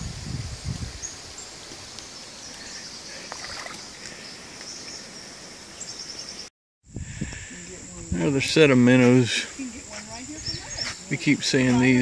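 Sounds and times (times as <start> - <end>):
insects trilling: 0.1 - 12.0.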